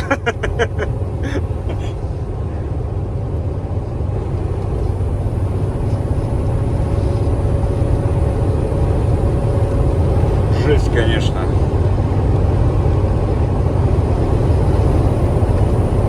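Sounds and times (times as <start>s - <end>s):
road noise inside cab: 0.0s - 16.0s
truck diesel engine droning: 0.0s - 16.0s.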